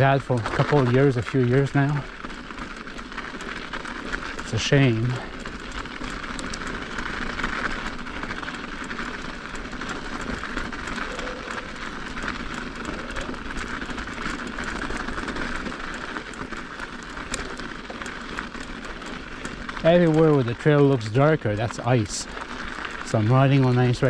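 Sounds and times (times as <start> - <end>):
bike clicks and rattles: 0.0 - 24.0
bike tyres rolling on ice: 0.0 - 24.0.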